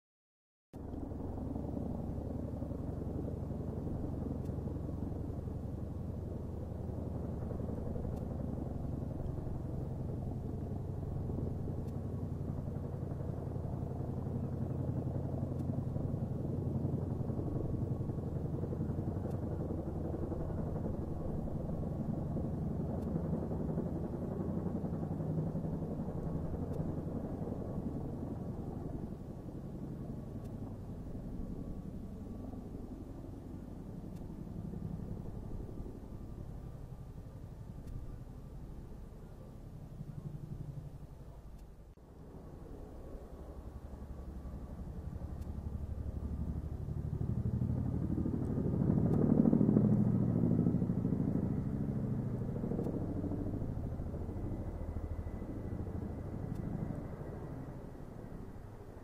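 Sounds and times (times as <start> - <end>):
helicopter engine drone: 0.8 - 59.0
helicopter rotor beat: 0.8 - 59.0.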